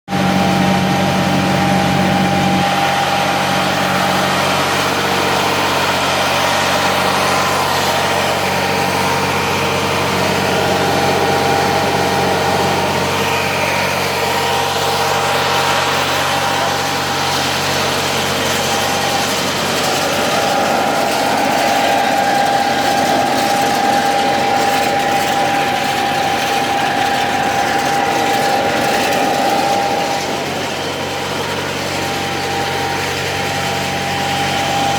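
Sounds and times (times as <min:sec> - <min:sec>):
engine drone: 0:00.1 - 0:34.9
machine high whine: 0:00.1 - 0:34.9.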